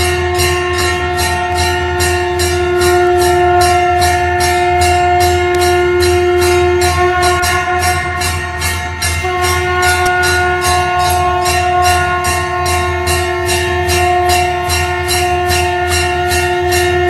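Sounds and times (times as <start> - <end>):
conch shell blown: 0.0 - 17.0
temple bell rung rapidly: 0.0 - 17.0.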